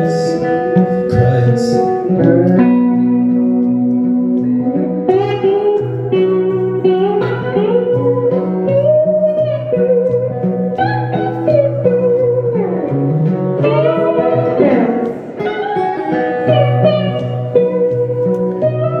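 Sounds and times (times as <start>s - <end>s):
guitar and bass accompaniment: 0.0s - 19.0s
lead guitar melody: 0.0s - 19.0s.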